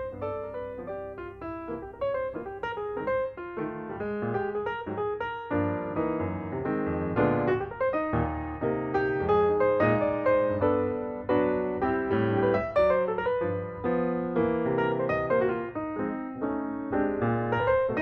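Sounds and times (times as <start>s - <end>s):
background piano music: 0.0s - 18.0s.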